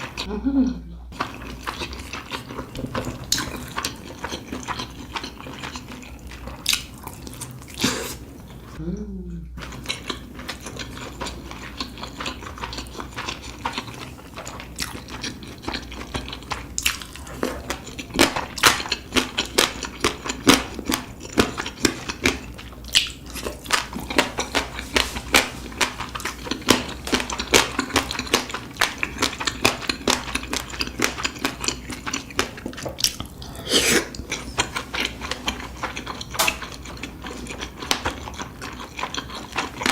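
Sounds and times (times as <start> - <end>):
chewing and crunching food: 0.0 - 0.3, 1.1 - 8.8, 9.6 - 39.9.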